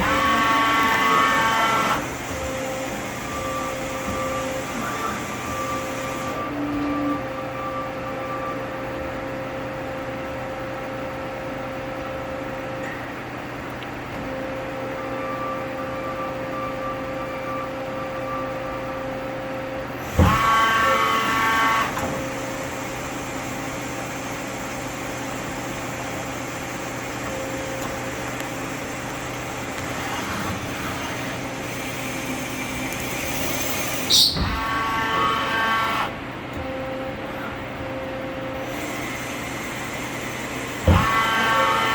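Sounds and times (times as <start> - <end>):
lathe mechanical hum: 0.0 - 41.9
machine whine: 0.0 - 41.9.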